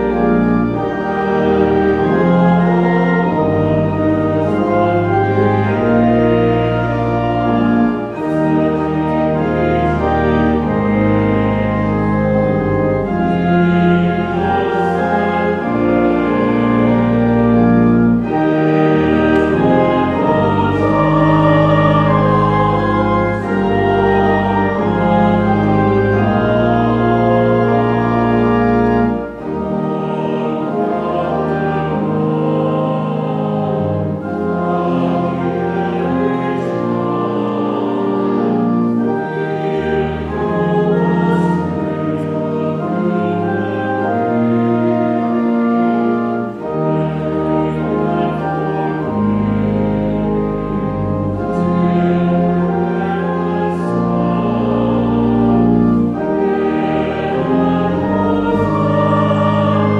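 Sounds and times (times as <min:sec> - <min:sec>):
pipe organ playing a hymn: 0:00.0 - 0:59.9.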